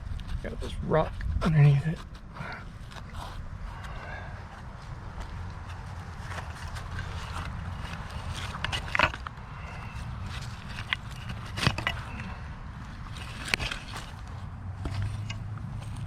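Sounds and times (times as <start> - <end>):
digging and scraping in stony ground: 0.0 - 16.0.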